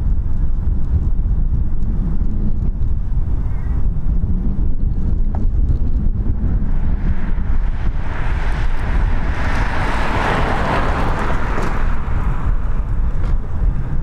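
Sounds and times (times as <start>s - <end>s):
wind buffeting microphone: 0.0s - 14.0s
rushing noise: 1.9s - 14.0s.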